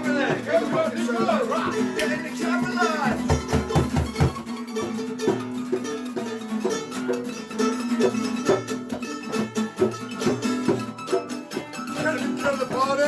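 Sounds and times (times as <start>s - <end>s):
punk band playing rhythm: 0.0s - 13.0s.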